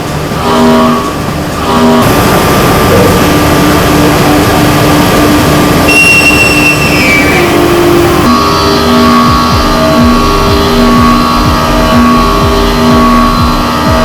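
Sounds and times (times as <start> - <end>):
high whine falling in pitch: 0.0 - 14.0
milling machine cutting metal: 0.0 - 14.0.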